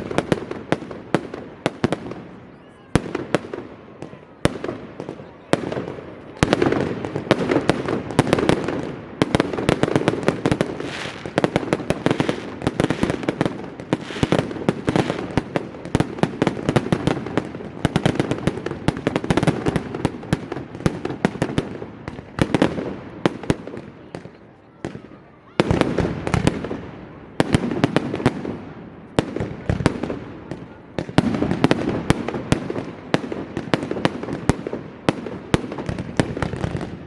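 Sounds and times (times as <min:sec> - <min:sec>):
fireworks cracking and banging: 0:00.0 - 0:37.0.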